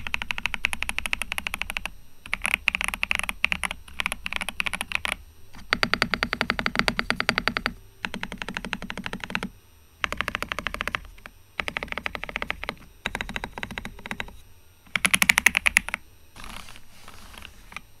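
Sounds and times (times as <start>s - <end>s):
mechanical keyboard typing: 0.0s - 17.9s.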